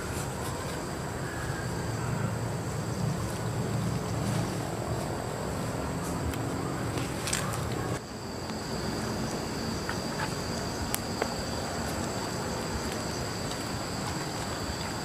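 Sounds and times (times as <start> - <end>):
insects shrilling: 0.0 - 15.0
low background rush: 0.0 - 15.0.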